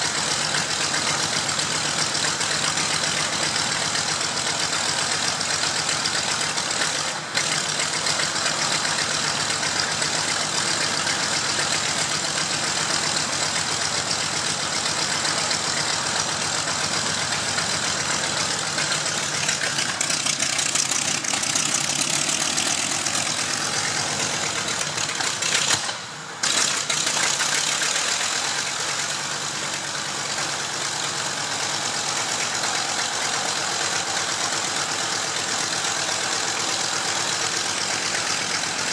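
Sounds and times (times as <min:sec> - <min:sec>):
radial aero engine running: 0:00.0 - 0:38.9.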